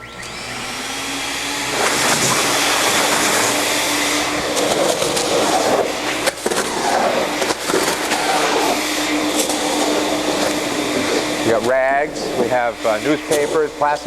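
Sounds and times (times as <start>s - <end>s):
industrial vacuum running: 0.0s - 14.0s
debris rattling through hose: 1.6s - 14.0s.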